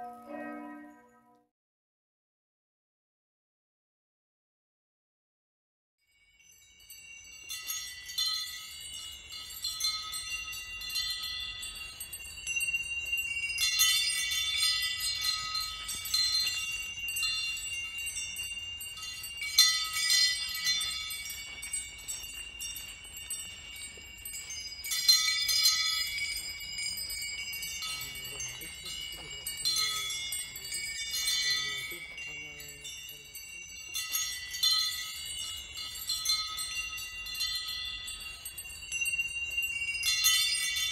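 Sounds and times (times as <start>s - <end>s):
metal wind chimes tinkling: 6.0s - 40.9s.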